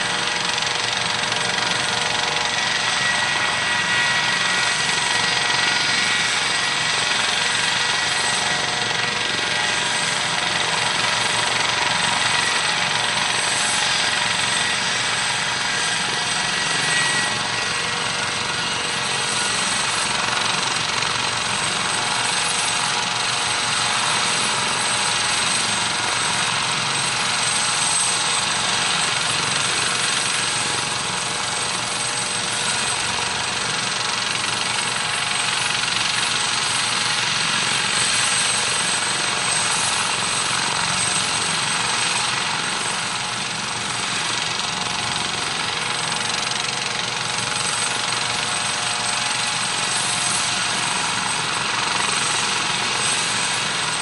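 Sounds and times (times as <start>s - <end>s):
helicopter rotor chop: 0.0s - 54.0s
helicopter turbine whine: 0.0s - 54.0s.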